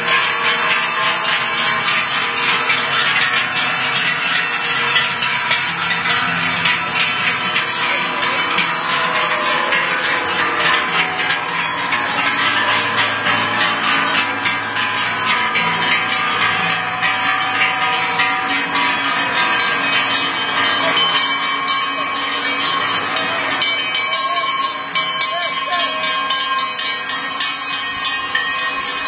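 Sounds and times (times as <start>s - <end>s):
cowbells jangling: 0.0s - 29.0s.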